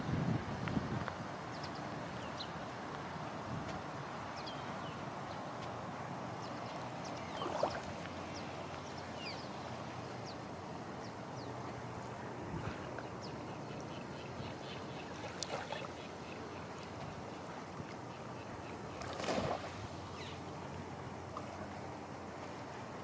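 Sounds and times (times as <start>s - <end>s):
small waves washing on beach: 0.0s - 13.3s, 14.7s - 23.0s.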